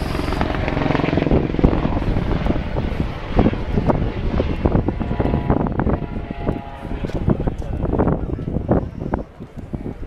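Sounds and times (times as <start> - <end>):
aircraft engine rumble: 0.0 - 10.0
wind buffeting microphone: 0.0 - 10.0.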